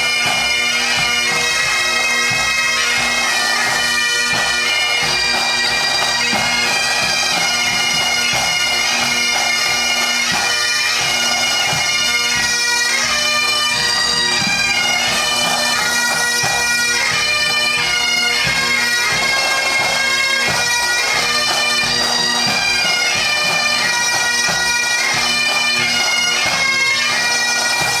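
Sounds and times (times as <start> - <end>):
bagpipes playing a tune: 0.0 - 28.0
pipe band drums beating: 0.0 - 28.0.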